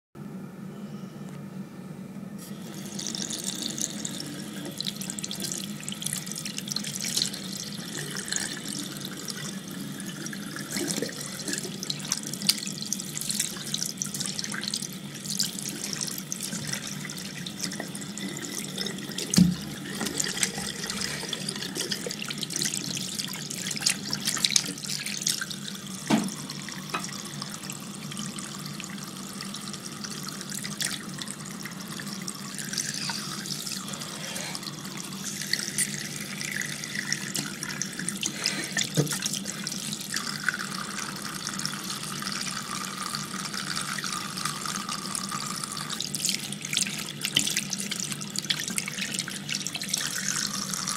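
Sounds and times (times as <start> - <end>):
water running from tap into sink: 2.4 - 50.9.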